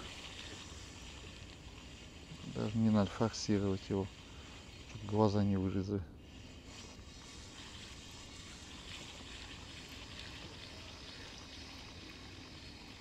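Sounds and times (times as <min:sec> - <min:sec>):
spinning reel whirring: 0:00.0 - 0:13.0.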